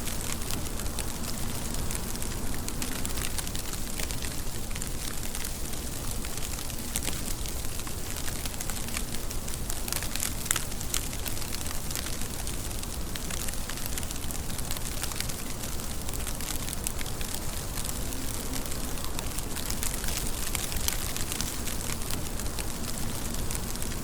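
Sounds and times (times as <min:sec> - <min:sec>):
rain hissing: 0:00.0 - 0:24.0
raindrops ticking: 0:00.0 - 0:24.0.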